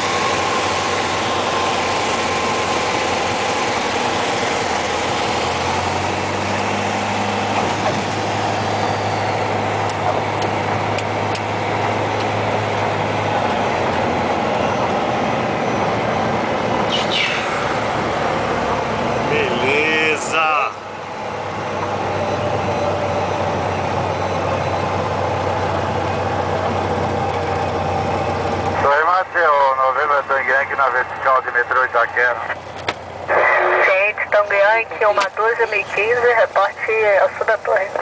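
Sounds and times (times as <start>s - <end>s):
airplane engine drone: 0.0s - 38.0s.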